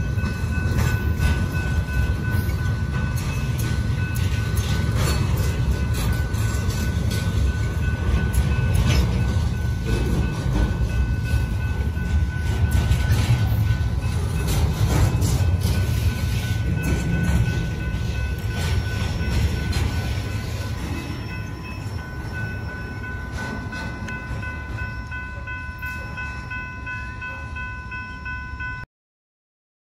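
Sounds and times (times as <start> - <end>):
freight train rumbling past: 0.0 - 28.8
crossing warning bell ringing: 0.0 - 28.9.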